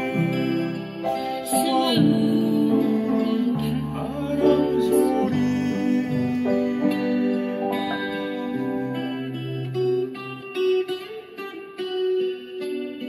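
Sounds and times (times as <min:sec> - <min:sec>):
upright piano playing: 0:00.0 - 0:11.2.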